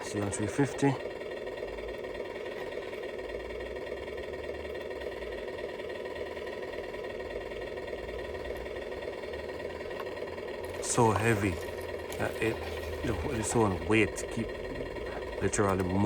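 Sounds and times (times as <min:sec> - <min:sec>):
small electric motor whine: 0:00.0 - 0:16.0.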